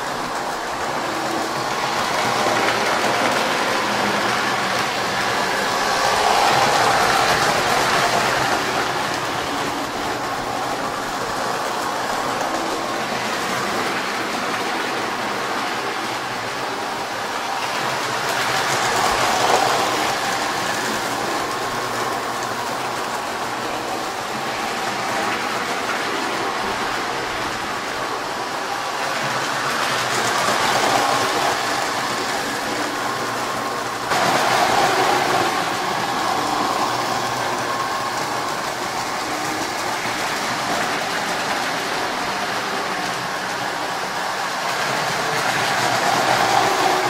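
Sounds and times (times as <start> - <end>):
toy trains rumbling on track: 0.0 - 47.0.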